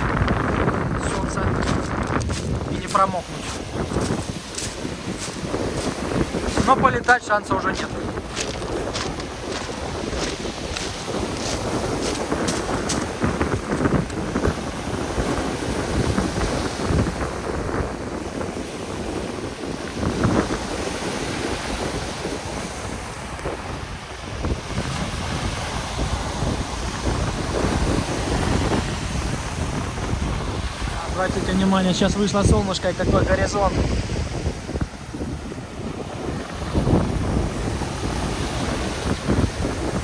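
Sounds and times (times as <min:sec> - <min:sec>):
surf rushing: 0:00.0 - 0:40.0
wind buffeting microphone: 0:00.0 - 0:40.0.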